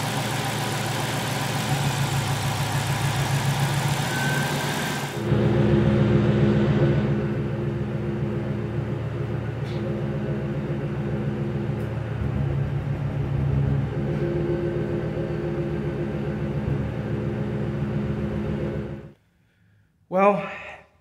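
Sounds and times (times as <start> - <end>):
car exhaust idling: 0.0 - 19.2.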